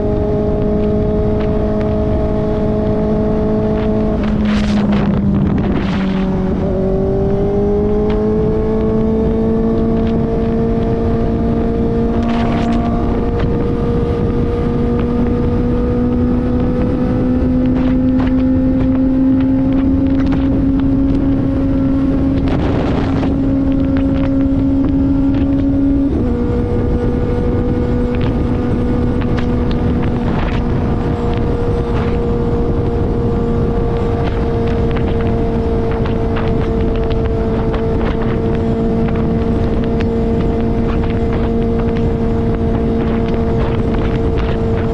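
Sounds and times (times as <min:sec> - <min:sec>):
motorcycle engine at high revs: 0:00.0 - 0:44.9
wind rushing on microphone: 0:00.0 - 0:44.9.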